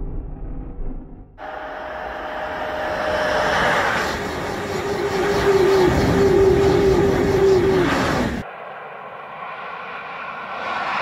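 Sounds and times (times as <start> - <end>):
pulsing train hum: 0.0 - 11.0
train rushing past: 1.4 - 11.0.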